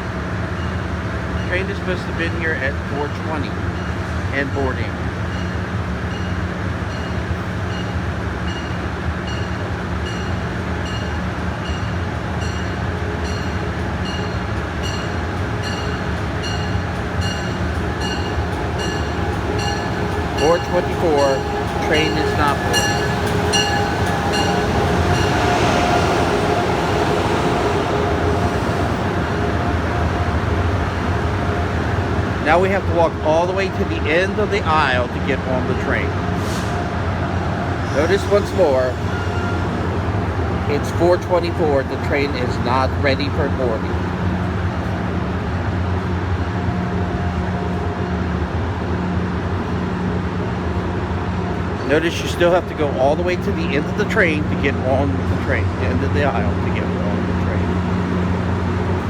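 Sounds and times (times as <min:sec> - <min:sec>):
locomotive rumble and hum: 0:00.0 - 0:59.0.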